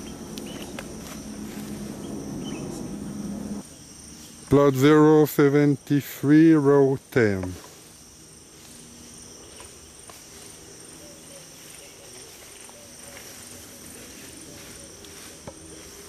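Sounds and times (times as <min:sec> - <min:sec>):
insect chorus trilling: 0:00.0 - 0:16.0.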